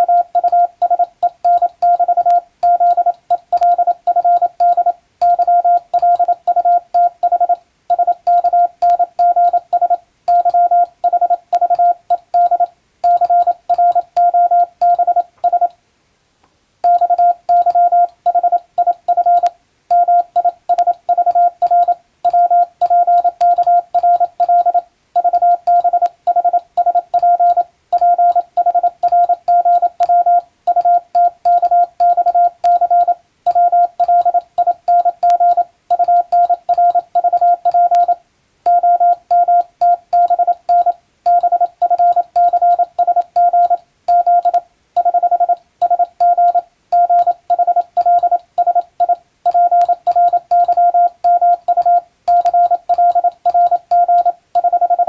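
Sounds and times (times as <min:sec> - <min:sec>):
morse code beeps: 0:00.0 - 0:15.7, 0:16.8 - 0:55.0.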